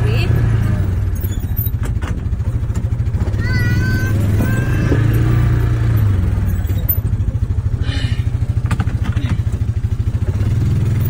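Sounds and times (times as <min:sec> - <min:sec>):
engine idling with low throb: 0:00.0 - 0:11.0.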